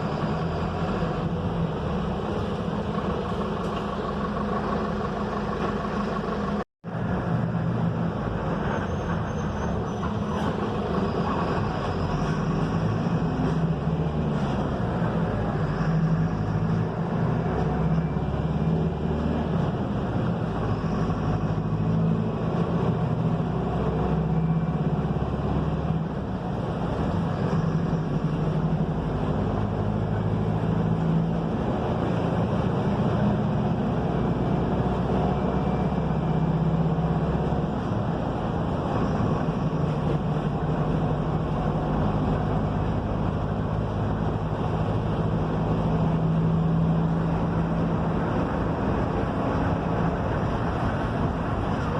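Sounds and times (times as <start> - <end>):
bus diesel engine running: 0.0 - 51.9
road noise: 0.0 - 51.9.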